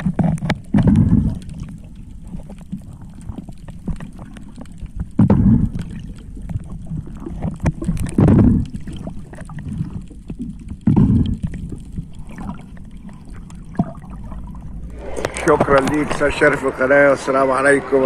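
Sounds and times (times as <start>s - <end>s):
small clicks and crackles: 0.0s - 16.0s
low water surges: 0.0s - 18.0s
underwater water rumble: 0.0s - 18.0s.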